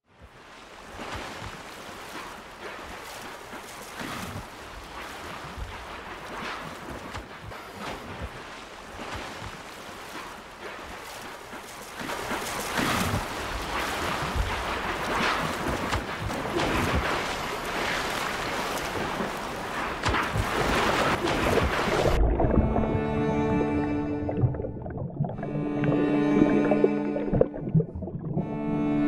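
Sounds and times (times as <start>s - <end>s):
sea waves washing: 0.0s - 29.0s.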